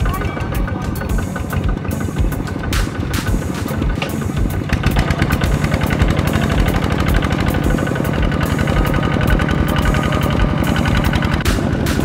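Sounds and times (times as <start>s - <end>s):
diesel engine chugging under load: 0.0s - 12.0s.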